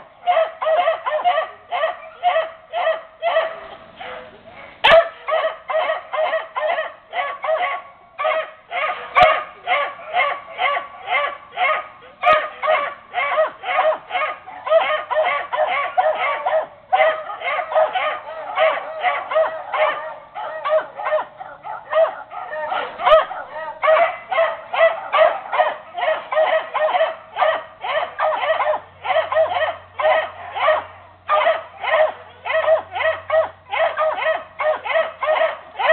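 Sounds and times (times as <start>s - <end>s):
dogs barking: 0.0s - 35.9s.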